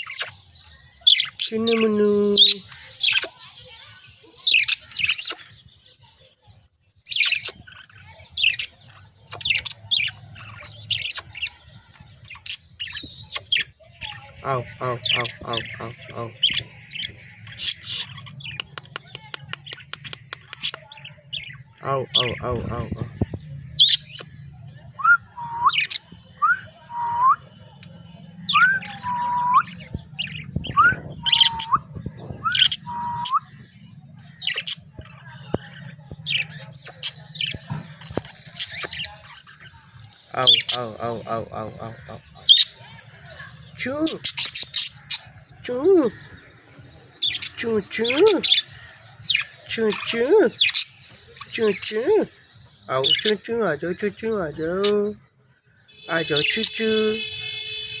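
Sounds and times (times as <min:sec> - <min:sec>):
budgerigars chirping and squawking: 0:00.0 - 0:25.0, 0:25.7 - 0:26.2, 0:27.7 - 0:58.0.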